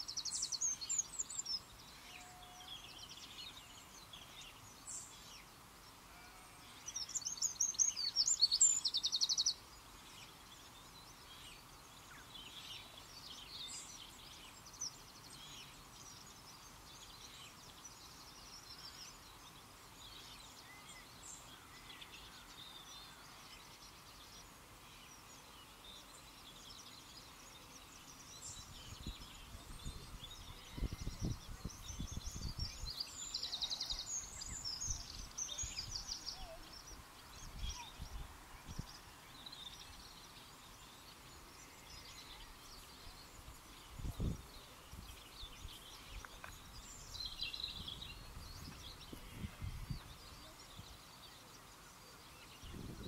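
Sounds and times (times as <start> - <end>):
faint outdoor hiss: 0.0 - 53.0
rapid trilling bird song: 0.0 - 53.0
small birds singing: 0.0 - 53.0.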